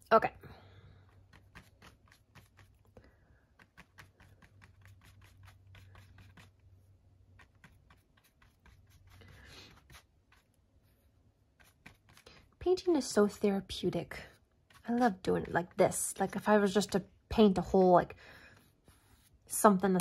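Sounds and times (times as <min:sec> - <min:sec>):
paintbrush scratching on cardboard: 0:01.0 - 0:13.0, 0:13.9 - 0:20.0.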